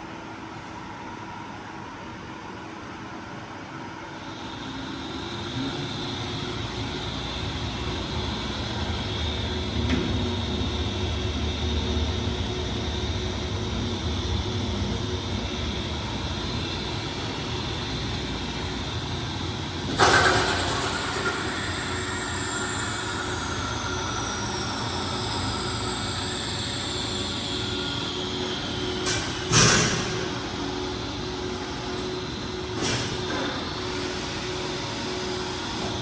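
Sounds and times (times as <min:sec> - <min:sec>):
grinder mechanical hum: 0:00.1 - 0:36.0.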